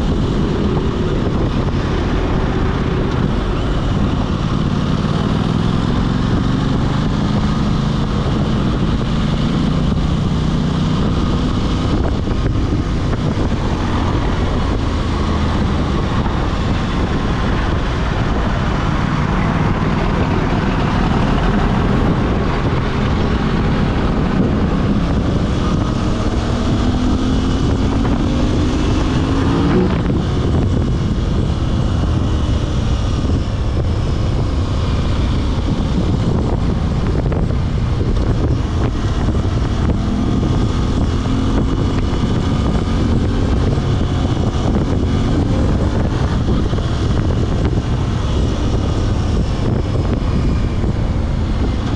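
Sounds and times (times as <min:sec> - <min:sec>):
motorcycle engine revving: 0:00.0 - 0:51.9
wind rushing past microphone: 0:00.0 - 0:51.9.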